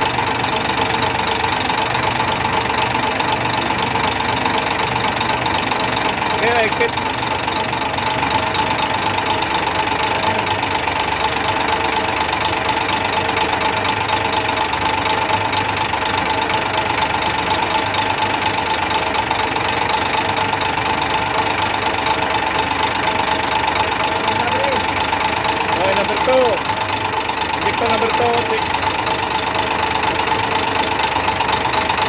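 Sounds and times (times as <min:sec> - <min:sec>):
engine idling with a knock: 0:00.0 - 0:32.0.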